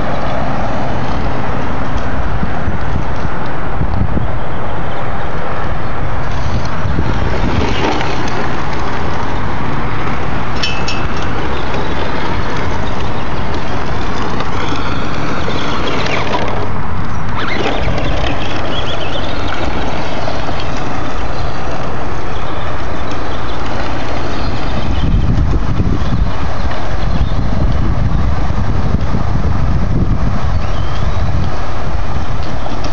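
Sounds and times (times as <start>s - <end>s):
loud steady rushing noise: 0.0s - 32.9s
tires on gravel: 0.0s - 32.9s.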